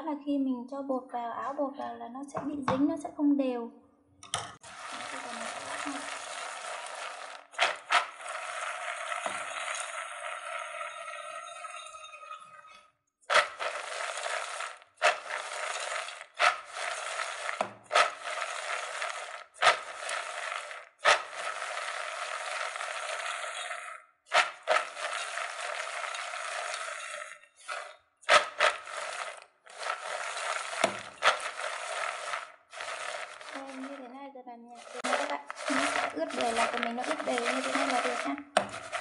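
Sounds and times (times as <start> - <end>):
peanuts rattling in a metal pot: 4.6 - 12.0, 13.3 - 39.0.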